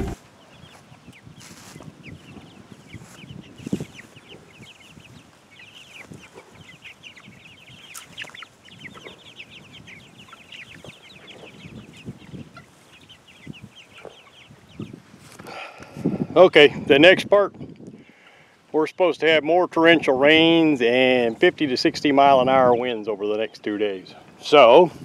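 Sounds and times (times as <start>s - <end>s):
hens clucking: 0.0s - 17.3s, 18.2s - 25.0s.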